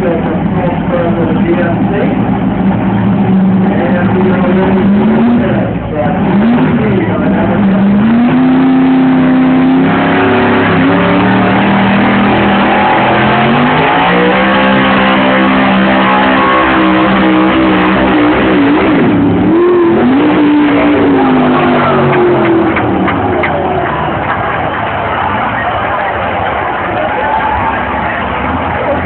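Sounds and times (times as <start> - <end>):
pickup engine revving under load: 0.0 - 29.0.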